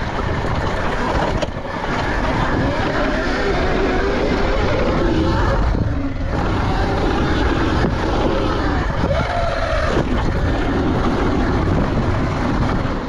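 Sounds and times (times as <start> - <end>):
dirt bike engine revving: 0.0 - 13.0
wind buffeting microphone: 0.0 - 13.0.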